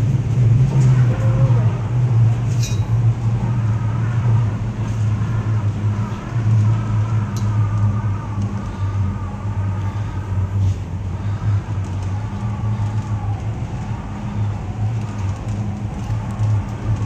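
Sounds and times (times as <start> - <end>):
cable car cabin hum and rumble: 0.0 - 17.0.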